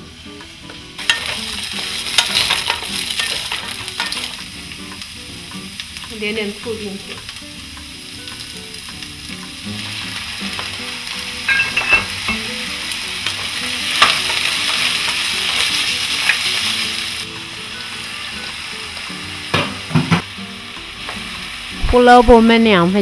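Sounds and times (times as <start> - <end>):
carrots sizzling in hot oil: 0.0 - 23.0.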